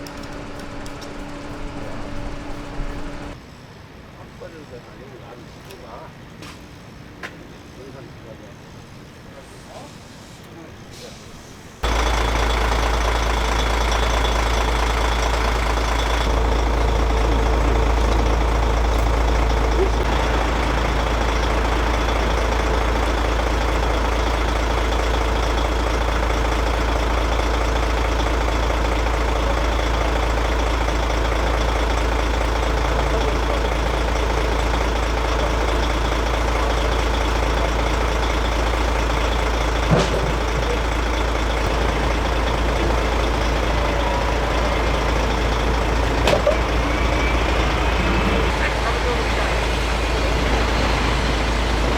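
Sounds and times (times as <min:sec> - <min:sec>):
truck diesel engine idling: 0:00.0 - 0:03.4, 0:10.6 - 0:51.9.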